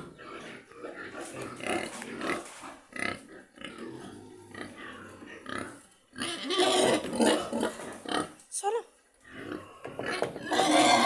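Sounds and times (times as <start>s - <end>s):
pigs calling: 0.0s - 8.4s, 9.3s - 11.0s.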